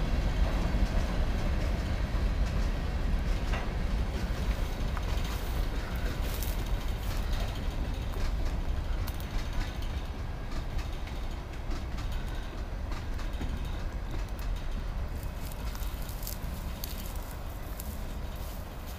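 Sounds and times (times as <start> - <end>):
freight train rumbling: 0.0 - 18.9
train wheel clicks: 0.4 - 18.9.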